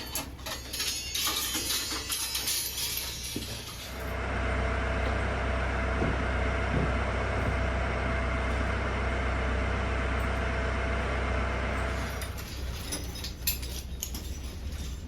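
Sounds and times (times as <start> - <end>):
machine rumble and hiss: 0.0 - 15.0.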